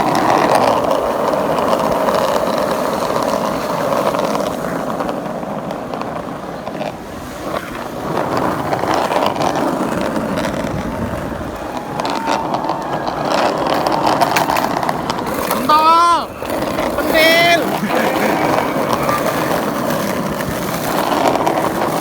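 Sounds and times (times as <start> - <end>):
skateboard wheels rolling on pavement: 0.0 - 22.0.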